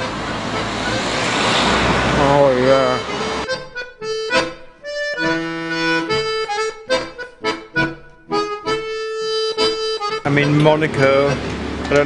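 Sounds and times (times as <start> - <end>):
accordion chords: 0.0 - 12.0.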